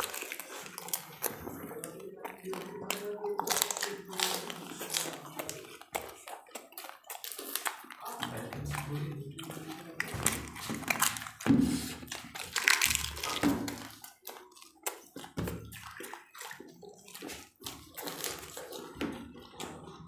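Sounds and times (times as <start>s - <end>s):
crisp shells crunching: 0.0s - 15.4s, 17.0s - 18.9s
slurping liquid in mouth: 0.0s - 20.0s
wet chewing: 0.0s - 20.0s.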